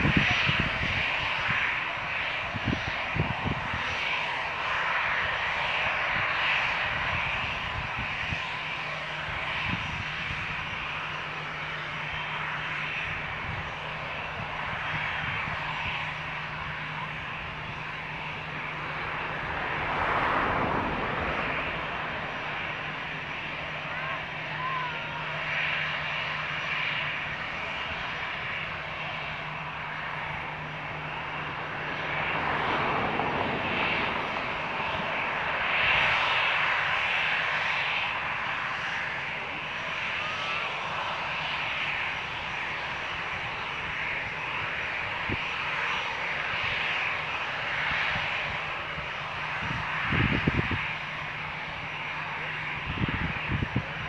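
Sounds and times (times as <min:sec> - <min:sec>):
airliner engine roar: 0:00.0 - 0:54.0.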